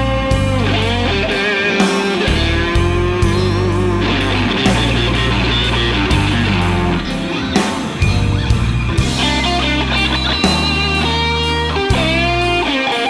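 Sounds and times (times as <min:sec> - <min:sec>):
bass guitar: 0:00.0 - 0:13.0
drums: 0:00.0 - 0:13.0
electric guitar solo: 0:00.0 - 0:13.0.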